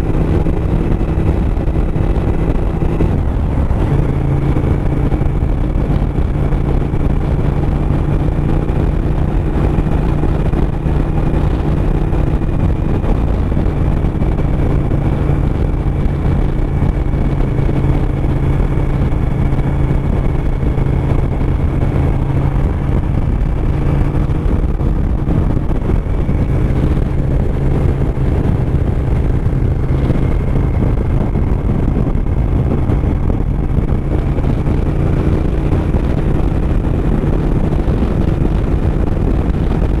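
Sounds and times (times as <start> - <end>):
motorcycle engine running: 0.0 - 40.0
wind rushing past microphone: 0.0 - 40.0.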